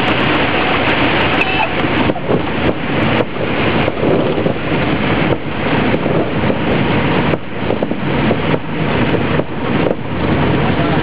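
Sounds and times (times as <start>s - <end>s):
airplane engine drone: 0.0s - 11.0s
rush of wind: 0.0s - 11.0s.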